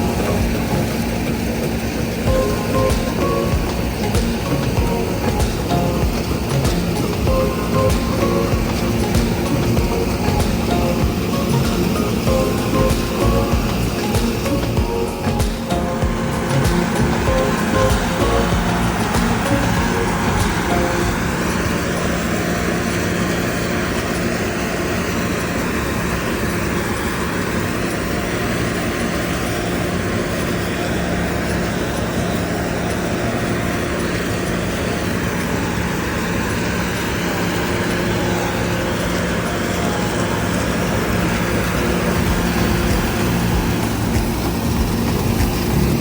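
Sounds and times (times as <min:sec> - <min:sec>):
motor humming: 0:00.0 - 0:46.0.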